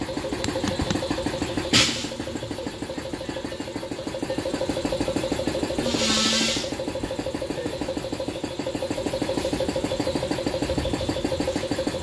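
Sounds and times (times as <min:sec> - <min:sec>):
machine running with pulse: 0:00.0 - 0:12.0.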